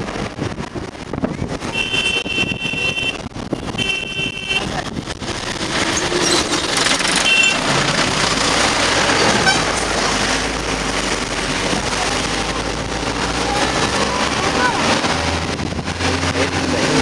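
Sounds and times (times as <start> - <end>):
engine and tyre noise: 0.0 - 17.0
passing trucks and cars: 0.0 - 17.0.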